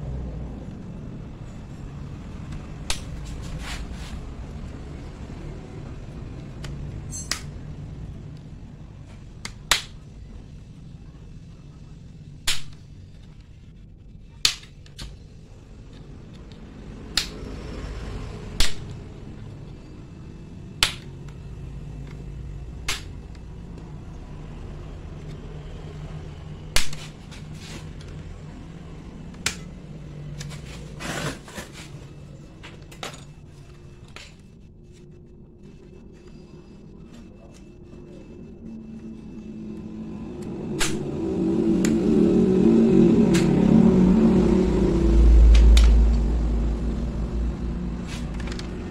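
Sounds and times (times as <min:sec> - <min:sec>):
low steady background rumble: 0:00.0 - 0:48.9.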